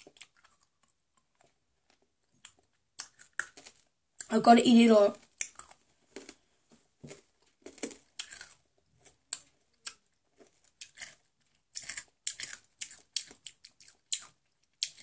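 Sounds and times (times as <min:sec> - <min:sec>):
mouth clicks chewing candy: 0:00.0 - 0:04.4, 0:05.2 - 0:06.5, 0:07.1 - 0:15.0
hard candy crunching: 0:00.0 - 0:15.0.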